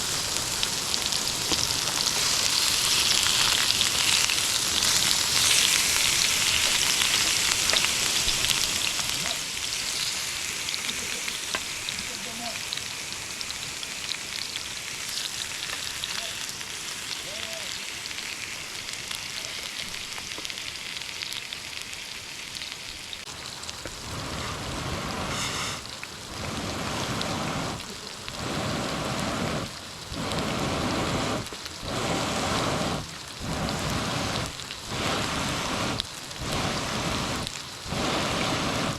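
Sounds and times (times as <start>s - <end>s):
food sizzling in a pan: 0.0s - 38.9s
heavy rain: 0.0s - 38.9s.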